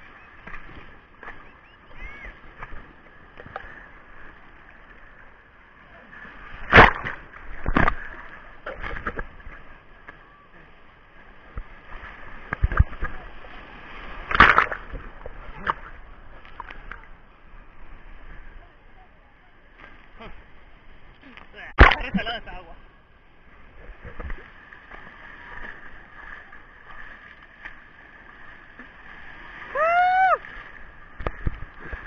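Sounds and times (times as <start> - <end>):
waves washing and splashing: 0.0 - 32.0.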